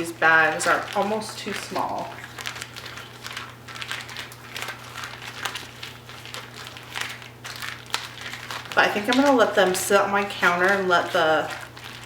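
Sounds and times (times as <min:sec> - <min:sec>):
plastic bags crinkling and rustling: 0:00.0 - 0:12.0.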